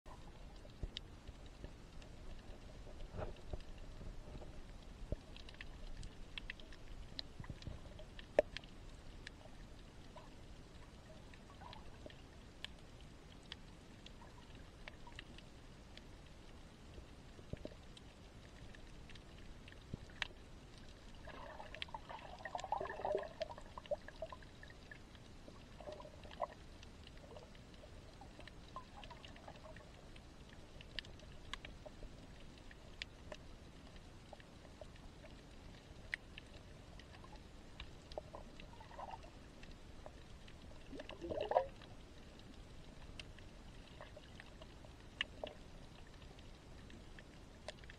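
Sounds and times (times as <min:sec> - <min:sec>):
faint underwater clicks and crackles: 0:00.1 - 0:47.9
underwater rumble of water: 0:00.1 - 0:47.9.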